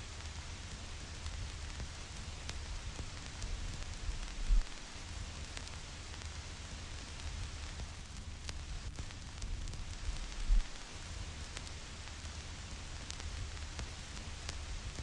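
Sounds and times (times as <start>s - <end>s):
vinyl record hiss and crackles: 0.0s - 15.0s.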